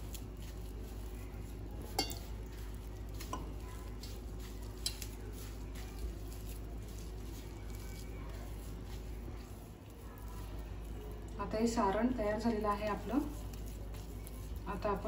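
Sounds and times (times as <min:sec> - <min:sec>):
hands squishing damp mixture: 0:00.0 - 0:15.0.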